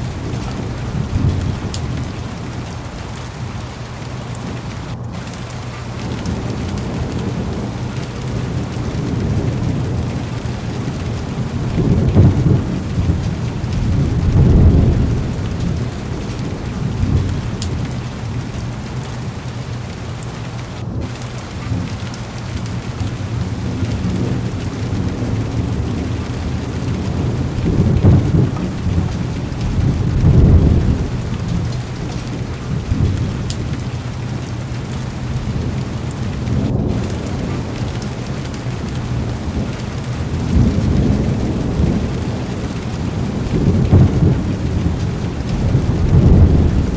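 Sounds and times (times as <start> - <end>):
heavy rain on car window: 0.0 - 46.9
low thunder rumbles: 0.0 - 46.9.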